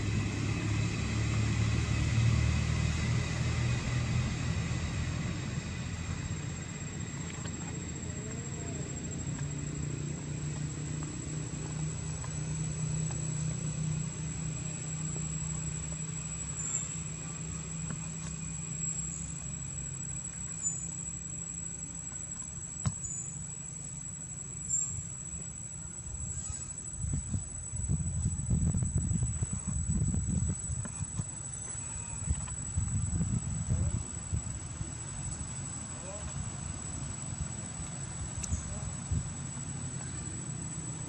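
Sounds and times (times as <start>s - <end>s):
engine humming: 0.0s - 41.0s
high-pitched whine: 0.0s - 41.0s.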